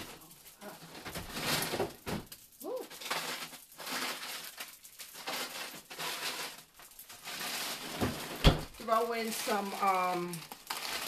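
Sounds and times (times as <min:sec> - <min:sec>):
plastic bags rustling and crinkling: 0:00.0 - 0:11.0.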